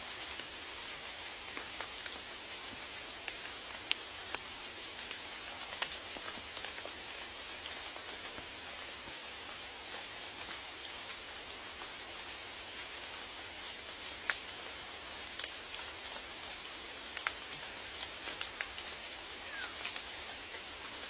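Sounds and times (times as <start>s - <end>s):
rain hissing: 0.0s - 21.0s
raindrops ticking: 0.3s - 21.0s.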